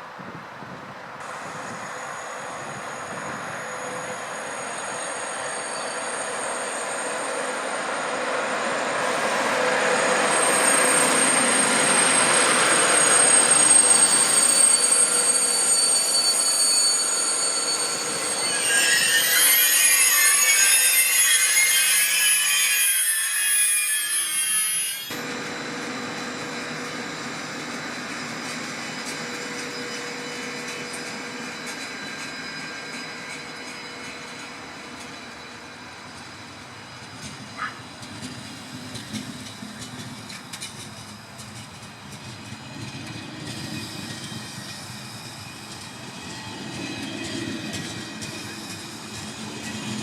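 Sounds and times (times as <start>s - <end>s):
train wheels squealing on rails: 0.0s - 50.0s.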